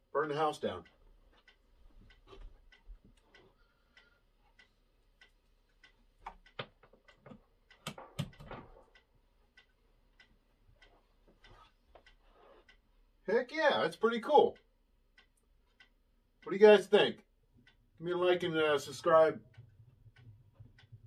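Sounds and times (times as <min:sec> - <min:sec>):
faint ticking: 0:00.0 - 0:21.0.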